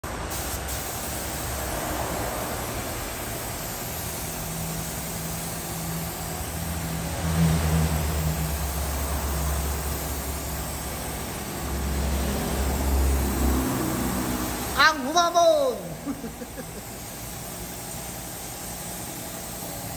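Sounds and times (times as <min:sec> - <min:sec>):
spray gun hissing: 0:00.0 - 0:19.9.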